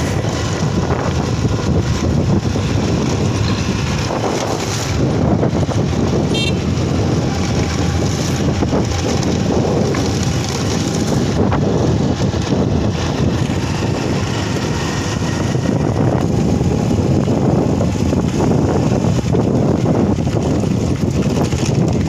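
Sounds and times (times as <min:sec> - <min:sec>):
tyres rumbling on rough road: 0:00.0 - 0:22.0
vehicle engine: 0:00.0 - 0:22.0
wind rush on microphone: 0:00.0 - 0:22.0.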